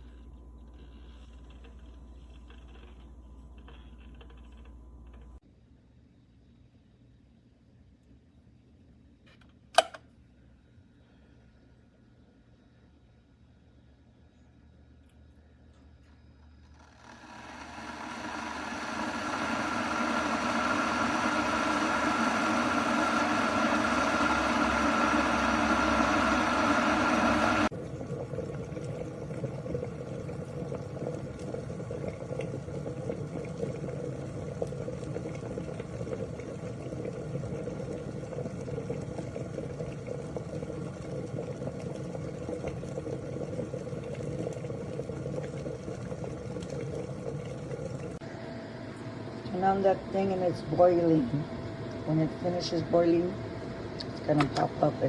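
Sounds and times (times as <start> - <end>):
kettle heating water: 0.0 - 5.4, 9.8 - 10.1, 15.0 - 55.0.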